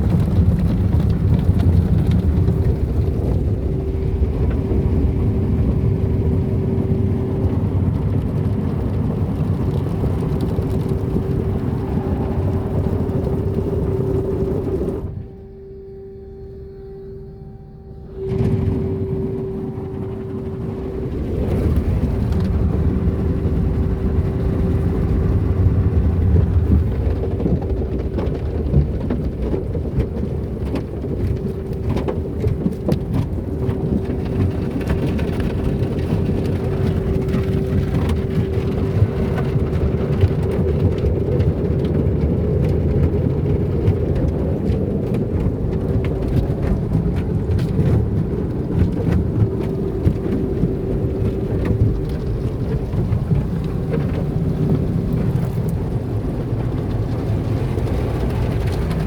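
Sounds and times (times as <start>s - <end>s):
car wash rumble: 0.0s - 59.0s
machine hum: 0.0s - 59.0s.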